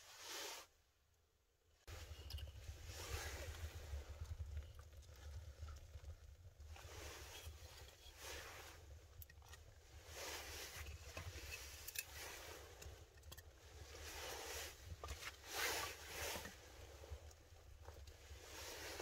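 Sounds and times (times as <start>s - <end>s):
fire crackles: 1.8s - 19.0s
wood scraping and rustling: 1.9s - 17.1s.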